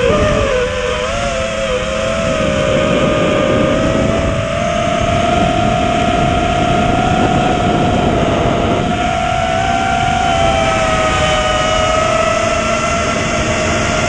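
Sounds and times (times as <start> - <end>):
drone motors whining: 0.0 - 14.0
rough rushing noise: 0.0 - 14.0.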